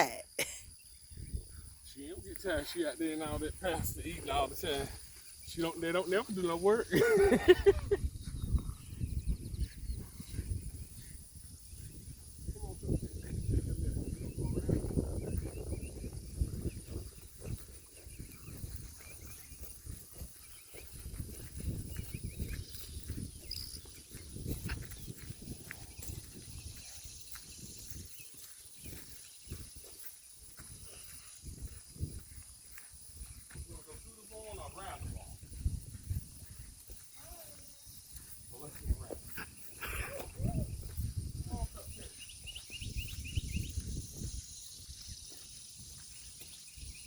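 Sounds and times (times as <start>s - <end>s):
high insect drone: 0.0s - 47.0s
bird chirping: 0.6s - 47.0s
horse hooves on soft ground: 2.2s - 47.0s.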